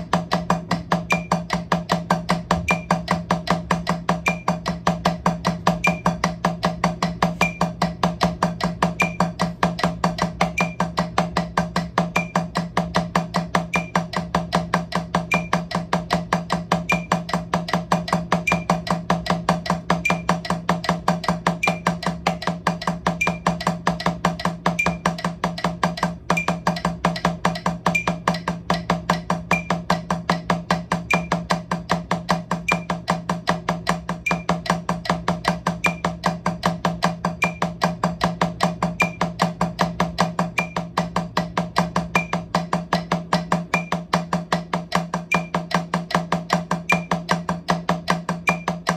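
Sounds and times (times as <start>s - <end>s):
drumsticks on practice pad: 0.0s - 48.9s
metronome click: 1.0s - 11.2s, 11.8s - 33.3s, 33.9s - 48.9s.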